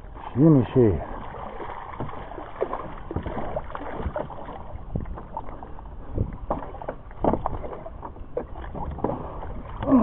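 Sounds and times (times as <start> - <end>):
water lapping at hull: 0.0 - 10.0.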